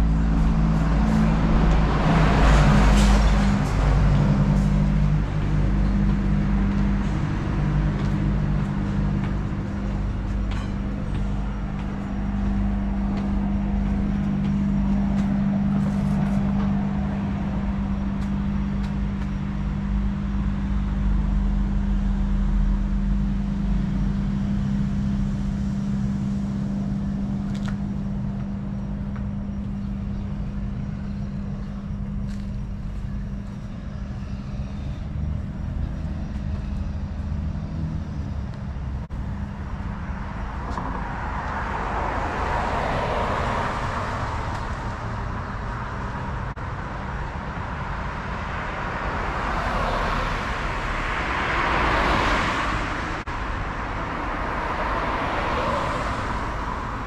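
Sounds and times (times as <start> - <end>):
low engine hum: 0.0 - 57.0
road traffic rumble: 0.0 - 57.0.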